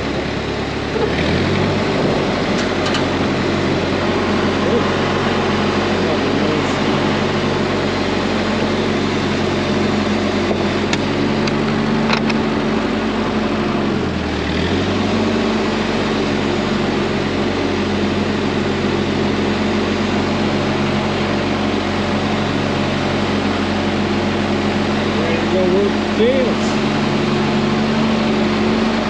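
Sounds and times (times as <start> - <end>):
small tractor engine running: 0.0 - 29.0.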